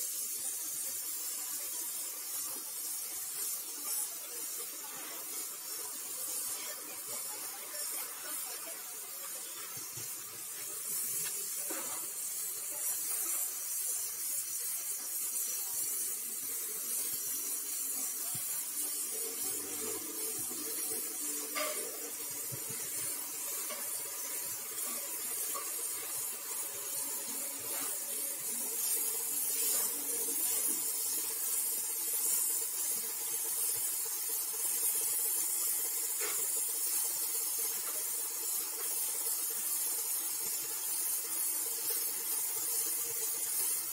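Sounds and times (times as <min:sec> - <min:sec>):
spray gun hissing: 0:00.0 - 0:43.9.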